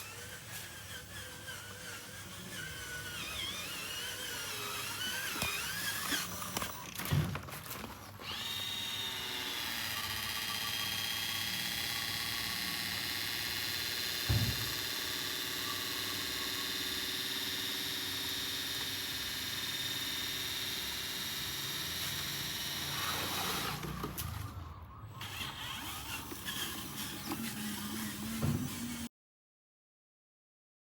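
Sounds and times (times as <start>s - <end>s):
small electric motors whining: 0.0s - 29.1s.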